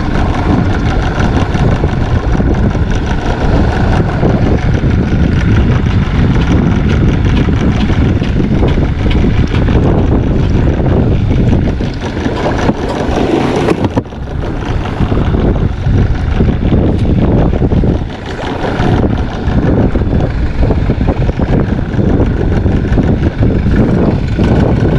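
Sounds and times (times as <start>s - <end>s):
water splashing against kayak: 0.0s - 24.9s
wind buffeting microphone: 0.0s - 24.9s.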